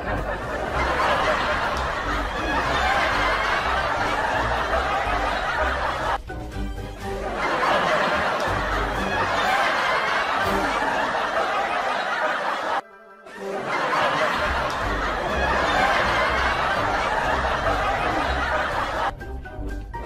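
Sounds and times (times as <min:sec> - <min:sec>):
laughter and snickering: 0:00.0 - 0:06.2, 0:07.1 - 0:19.1
background music: 0:00.0 - 0:20.0.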